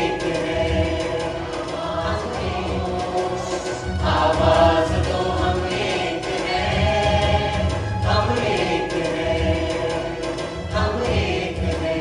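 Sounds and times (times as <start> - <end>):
group singing with instruments: 0.0 - 12.0.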